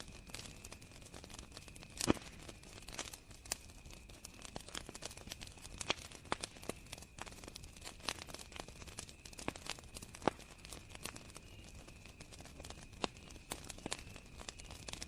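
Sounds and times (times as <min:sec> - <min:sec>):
campfire crackling: 0:00.0 - 0:15.0
wood popping in fire: 0:00.0 - 0:15.0
cricket trill: 0:00.1 - 0:15.0.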